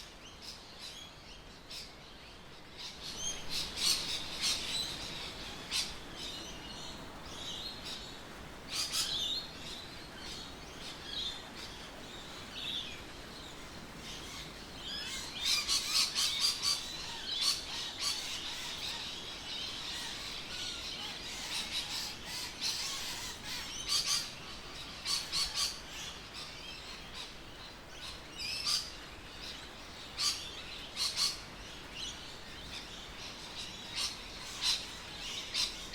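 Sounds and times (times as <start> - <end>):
birds chirping and calling: 0.2 - 35.9.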